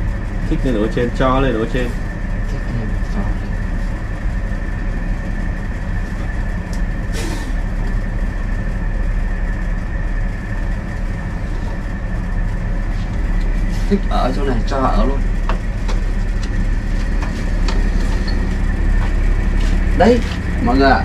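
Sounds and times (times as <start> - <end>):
low machine hum: 0.0 - 21.0
thin constant whine: 0.0 - 21.0.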